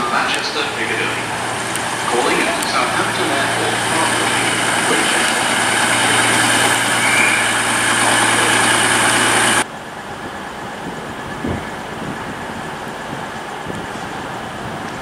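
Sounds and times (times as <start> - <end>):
train diesel engines humming: 0.0 - 15.0.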